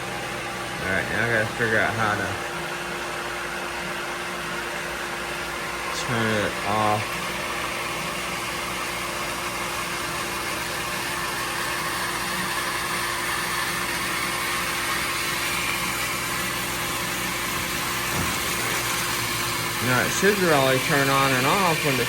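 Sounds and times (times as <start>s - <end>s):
water pump humming: 0.0s - 22.0s.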